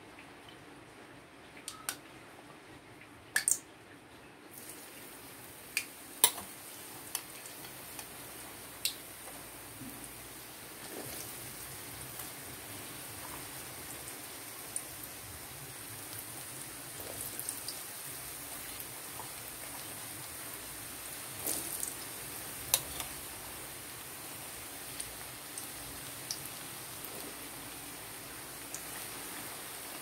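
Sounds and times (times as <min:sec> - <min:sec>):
food deep-frying in hot oil: 0:04.5 - 0:30.0.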